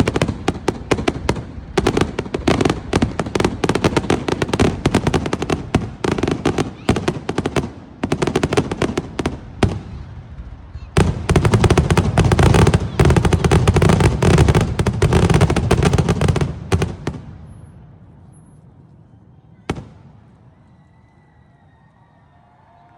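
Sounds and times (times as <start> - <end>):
fireworks bangs and crackles: 0.0 - 20.8.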